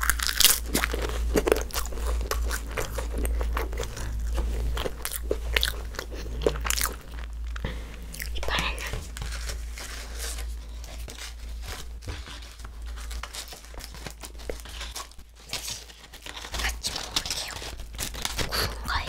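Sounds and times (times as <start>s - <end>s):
edible paper crinkling and crackling: 0.0s - 19.0s.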